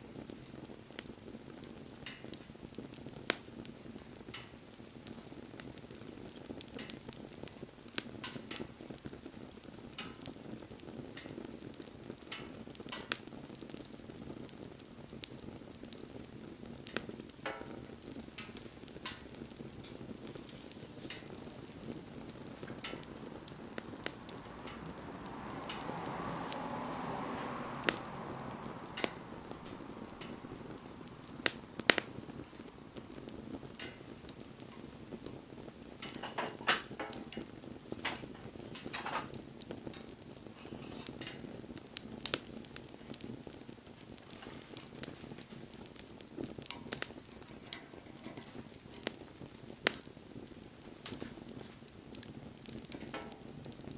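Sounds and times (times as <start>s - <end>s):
fire hissing: 0.0s - 53.9s
wood fire crackling: 0.0s - 53.9s.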